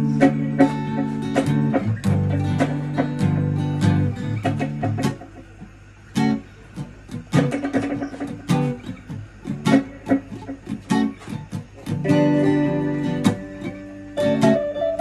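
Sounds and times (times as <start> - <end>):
guitar chords: 0.0 - 15.0.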